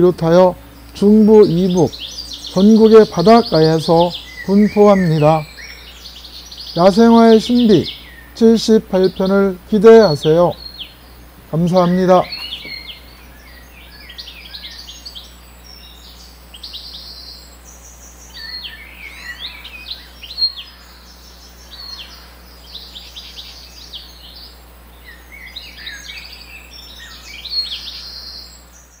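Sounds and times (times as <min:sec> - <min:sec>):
birds singing and chirping: 0:00.0 - 0:29.0
faint low hum: 0:00.0 - 0:29.0.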